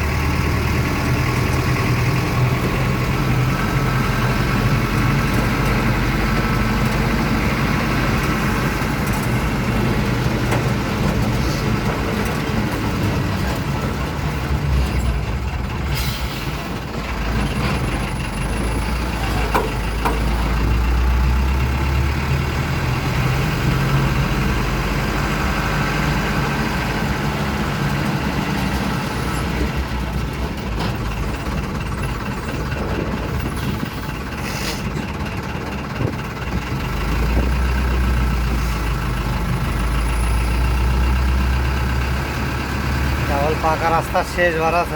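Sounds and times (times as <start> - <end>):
truck engine drone: 0.0 - 44.9.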